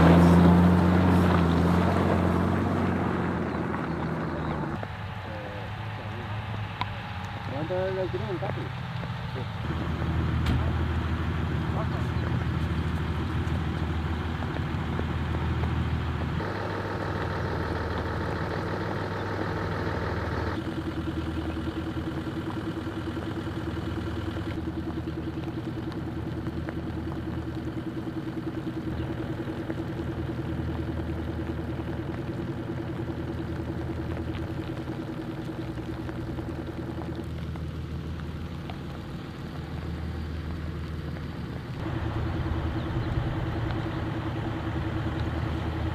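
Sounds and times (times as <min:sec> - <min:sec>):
vehicle engines idling: 0:00.0 - 0:45.9.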